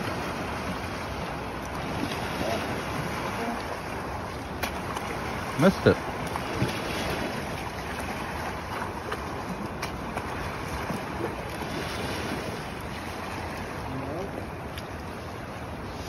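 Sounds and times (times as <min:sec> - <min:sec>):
sea rushing: 0:00.0 - 0:16.0.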